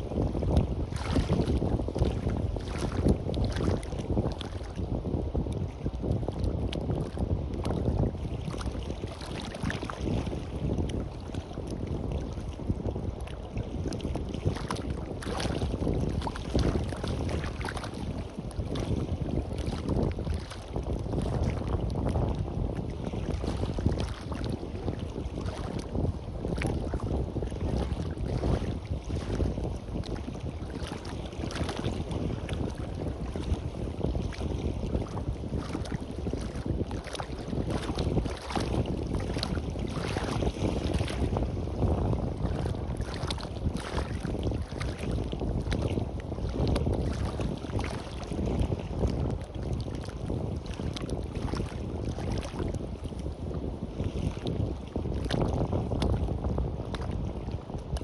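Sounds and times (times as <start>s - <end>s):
waves washing onto a beach: 0.0s - 58.0s
wind buffeting the microphone: 0.0s - 58.0s.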